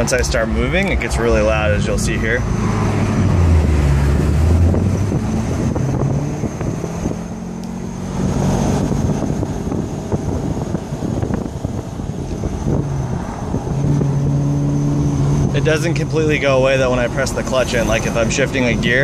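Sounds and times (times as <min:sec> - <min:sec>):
car engine: 0:00.0 - 0:19.0
road noise: 0:00.0 - 0:19.0.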